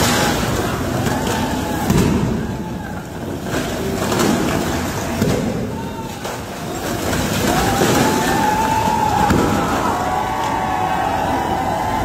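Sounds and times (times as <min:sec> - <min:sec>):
breaking rock knocks: 0:00.0 - 0:10.2.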